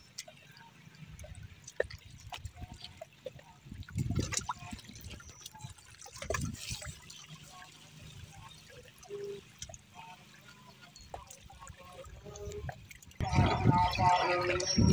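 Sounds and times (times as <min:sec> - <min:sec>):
water trickling and dripping: 0:00.0 - 0:14.9.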